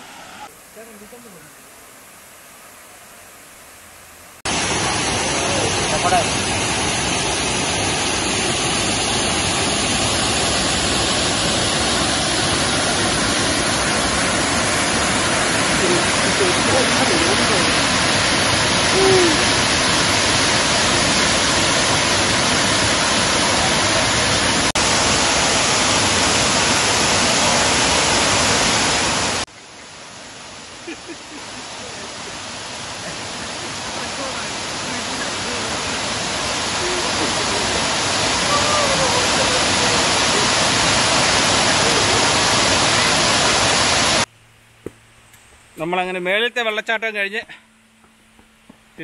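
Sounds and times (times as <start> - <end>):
waterfall rushing: 0.0 - 3.6, 4.4 - 44.3.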